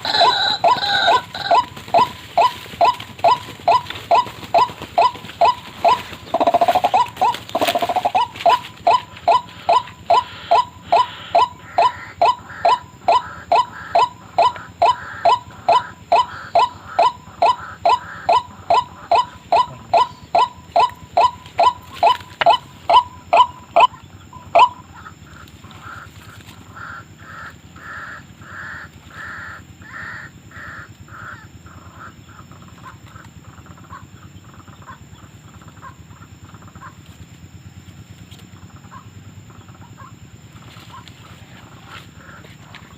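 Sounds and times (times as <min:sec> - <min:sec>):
bird calling: 0:00.0 - 0:42.9.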